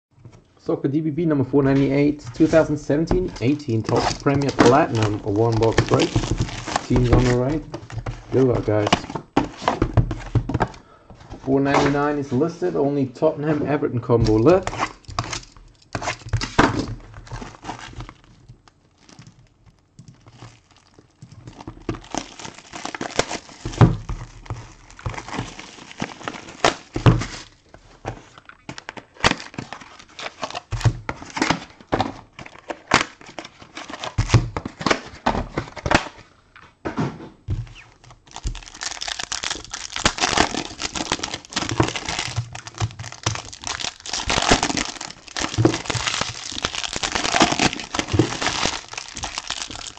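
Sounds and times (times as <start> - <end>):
wrappers crinkling and tearing: 1.6 - 9.7, 14.3 - 16.6, 17.2 - 35.1, 37.7 - 49.9.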